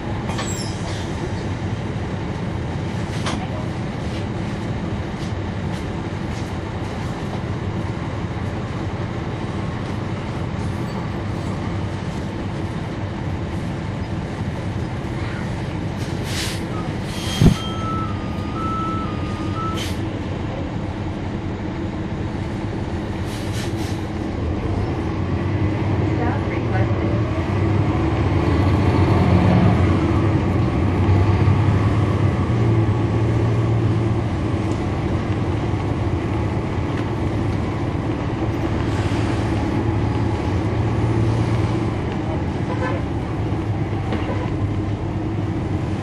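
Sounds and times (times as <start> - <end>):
bus diesel engine droning: 0.0 - 46.0.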